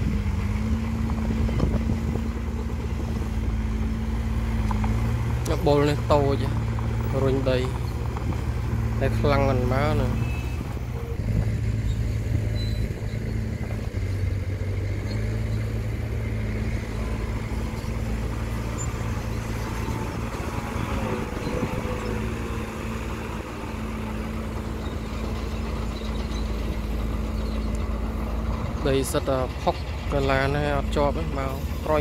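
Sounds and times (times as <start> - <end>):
diesel truck engine droning: 0.0 - 32.0.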